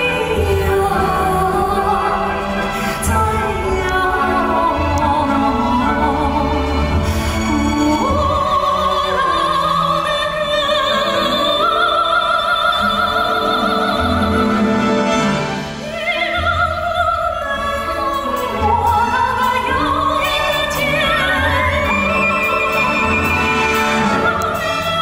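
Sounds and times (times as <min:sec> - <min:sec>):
orchestral accompaniment: 0:00.0 - 0:25.0.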